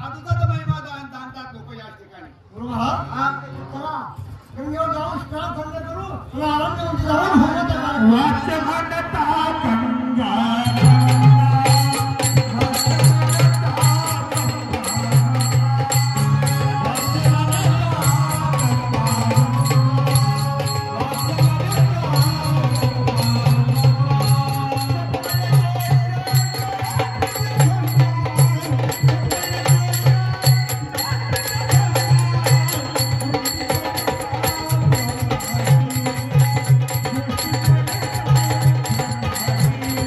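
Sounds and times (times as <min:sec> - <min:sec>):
drums: 0:07.0 - 0:40.0.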